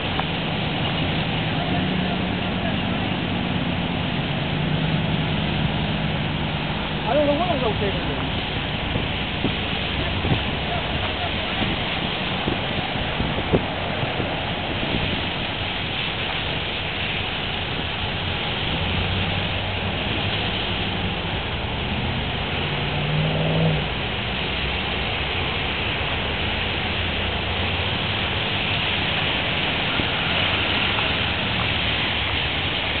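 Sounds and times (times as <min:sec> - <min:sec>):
rain: 0:00.0 - 0:33.0
vehicle engine hum passing: 0:00.0 - 0:33.0
wet tyres hissing: 0:00.0 - 0:33.0.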